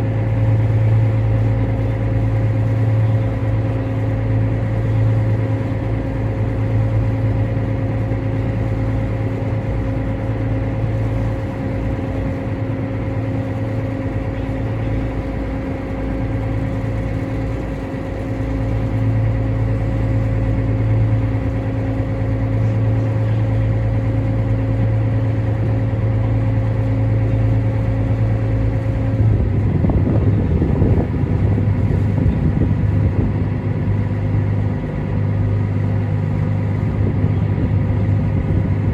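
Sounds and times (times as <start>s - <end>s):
ferry engine humming: 0.0s - 38.9s.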